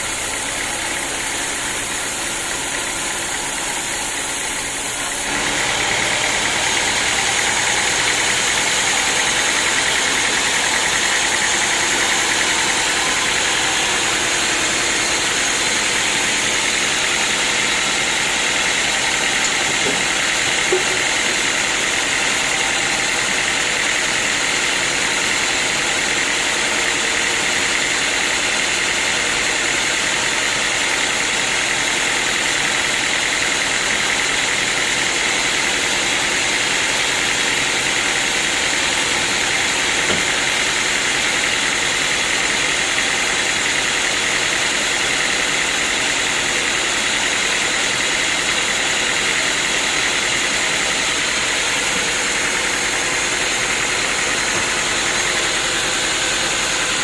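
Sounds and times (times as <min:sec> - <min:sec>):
sawmill machinery whine: 0:00.0 - 0:57.0.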